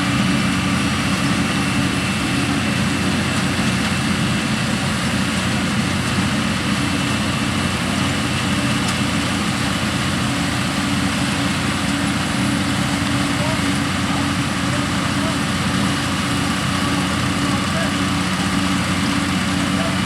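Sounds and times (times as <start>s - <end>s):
harvester clattering and whirring: 0.0s - 20.0s
tractor engine under load: 0.0s - 20.0s.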